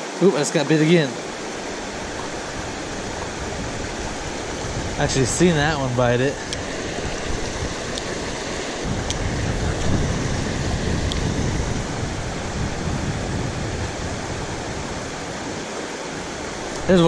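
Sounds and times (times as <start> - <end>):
river flowing over rocks: 0.0 - 17.0
low uneven rumble: 1.2 - 15.6.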